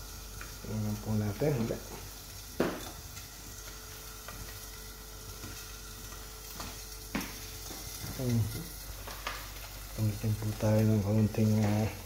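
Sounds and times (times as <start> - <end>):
faint steady hum: 0.0 - 12.0
food sizzling in grill pan: 0.0 - 12.0.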